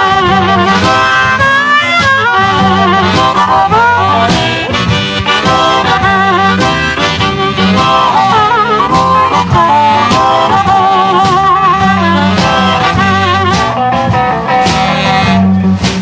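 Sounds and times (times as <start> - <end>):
electric blues band playing: 0.0 - 16.0
harmonica lead: 0.0 - 16.0.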